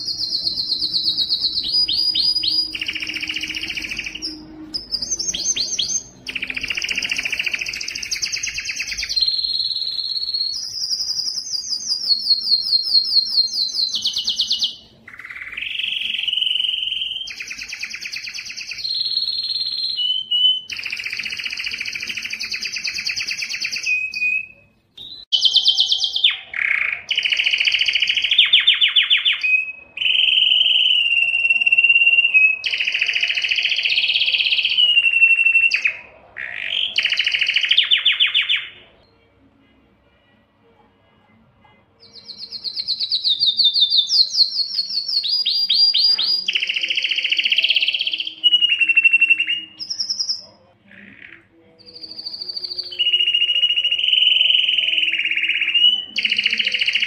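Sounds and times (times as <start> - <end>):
canary singing trills: 0.0 - 39.5, 41.0 - 57.0.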